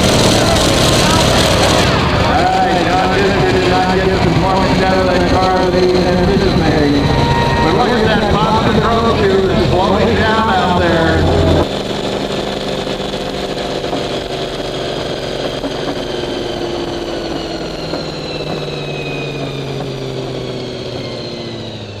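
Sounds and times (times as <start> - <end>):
engine idling: 0.0 - 22.0
high whine falling in pitch: 0.0 - 22.0.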